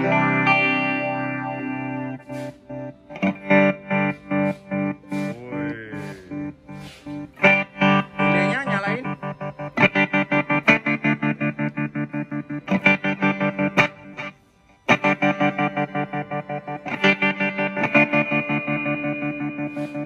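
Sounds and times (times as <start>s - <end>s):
electric guitar through amplifier: 0.0s - 20.0s.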